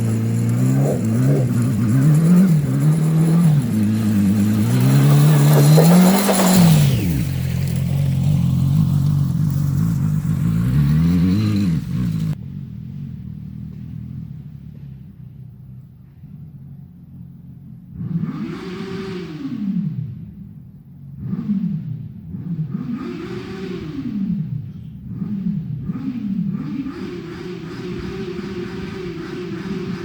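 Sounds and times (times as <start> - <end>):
small gasoline engine revving: 0.0 - 30.0.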